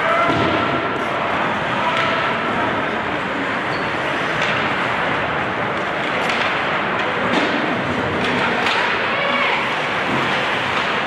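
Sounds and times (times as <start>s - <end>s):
hockey sticks and puck clacking: 1.4s - 11.0s.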